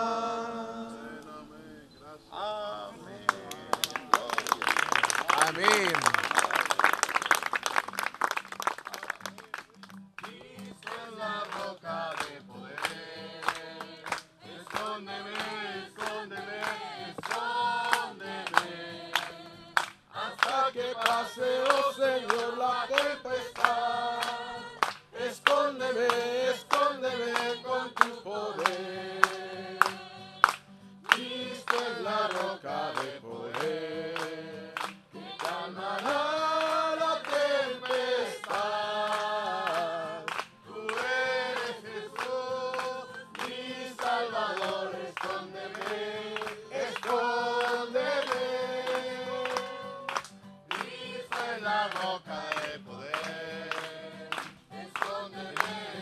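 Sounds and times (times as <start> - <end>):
congregation singing a hymn: 0.0 - 4.1, 10.2 - 56.0
hands clapping along: 3.1 - 56.0.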